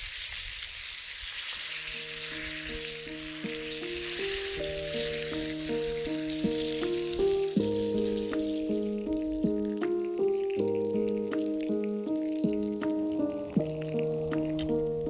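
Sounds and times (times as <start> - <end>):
meat sizzling: 0.0 - 15.0
gentle background music: 1.7 - 15.0.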